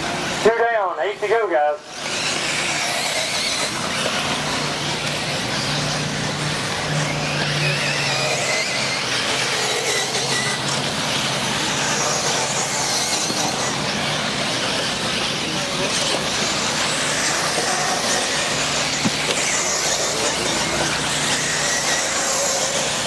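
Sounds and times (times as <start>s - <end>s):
rc car motors whining: 0.0s - 23.0s.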